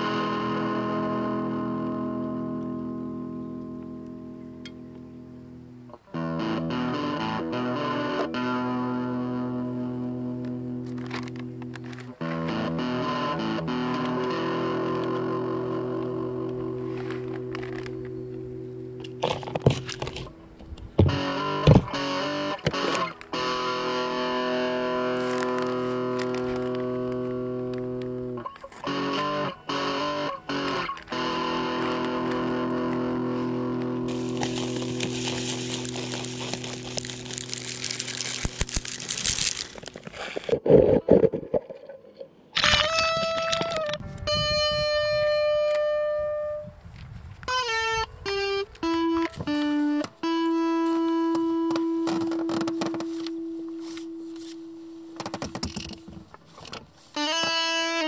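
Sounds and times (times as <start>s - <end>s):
distorted electric guitar: 0.0s - 41.5s, 42.6s - 46.8s, 47.4s - 58.0s.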